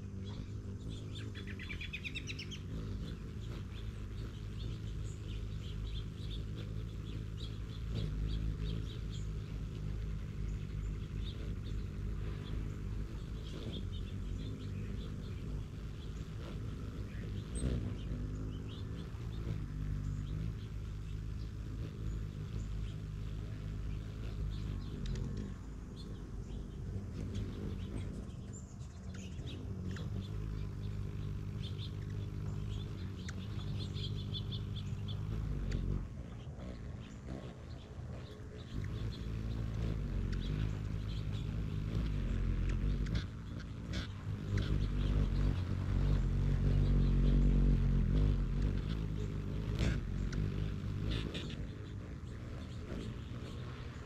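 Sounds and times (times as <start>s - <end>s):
hummingbirds chipping: 0.0s - 54.0s
steady low hum: 0.0s - 54.0s.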